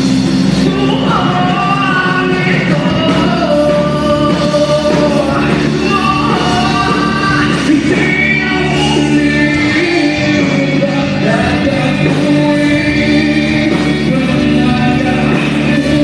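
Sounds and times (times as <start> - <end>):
lead vocal singing: 0.0 - 16.0
live band playing: 0.0 - 16.0.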